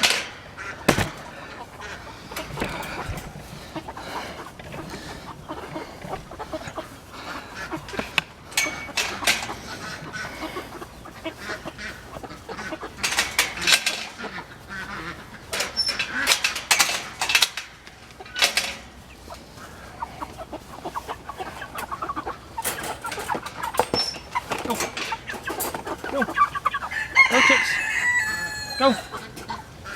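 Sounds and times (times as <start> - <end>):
chickens clucking and squawking: 0.0 - 29.9.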